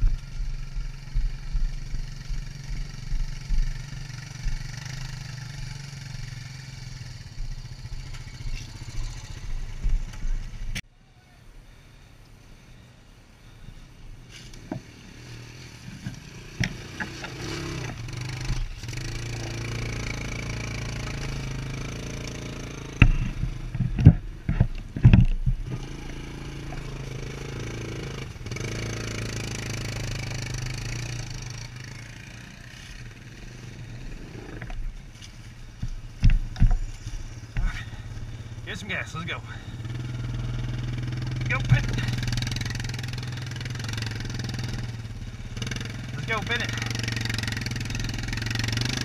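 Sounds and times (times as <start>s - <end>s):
atv engine running: 0.0s - 10.8s, 13.4s - 49.0s.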